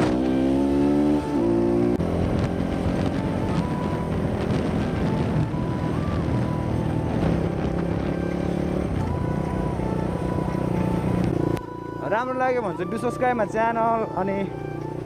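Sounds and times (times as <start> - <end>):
motorcycle engine running: 0.0 - 15.0
thin tune: 2.4 - 15.0.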